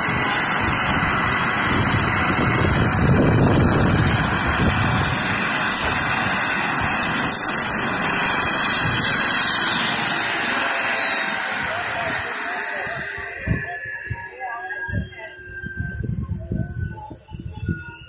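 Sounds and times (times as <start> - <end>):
helicopter engine and rotor: 0.0 - 18.0.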